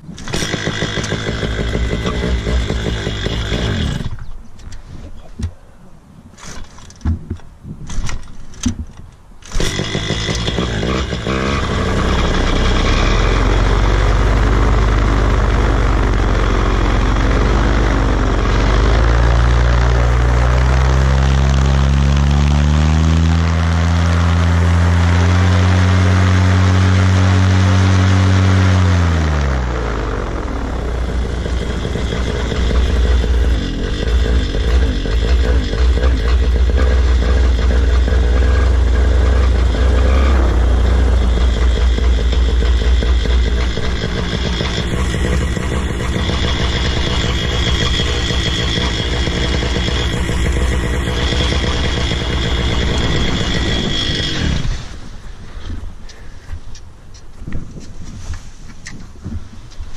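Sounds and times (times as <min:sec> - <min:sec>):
paramotor engine running unevenly: 0:00.2 - 0:04.2, 0:09.5 - 0:22.6, 0:23.2 - 0:55.0.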